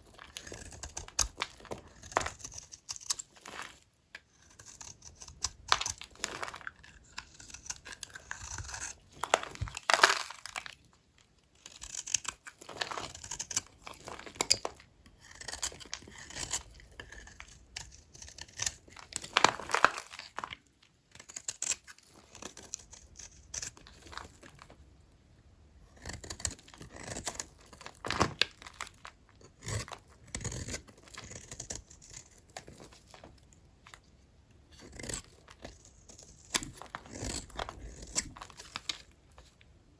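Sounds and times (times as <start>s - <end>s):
knife cutting dry soap: 0.0s - 10.8s, 11.6s - 24.7s, 25.9s - 34.0s, 34.7s - 39.6s.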